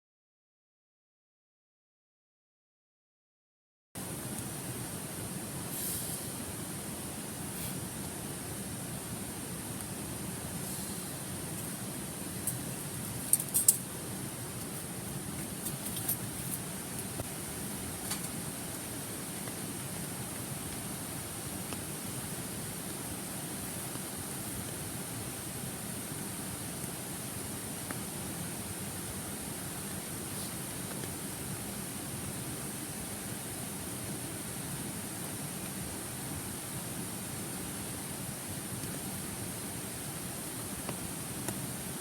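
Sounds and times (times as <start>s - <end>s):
mountain stream flowing: 4.0s - 42.0s.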